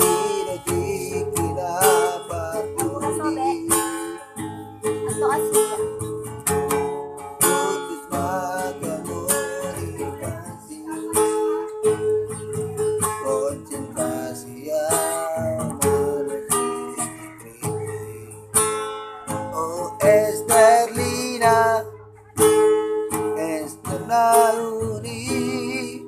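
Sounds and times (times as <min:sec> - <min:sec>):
person singing: 0:00.0 - 0:06.1, 0:07.4 - 0:22.1, 0:23.3 - 0:26.0
strummed acoustic guitar: 0:00.0 - 0:26.0.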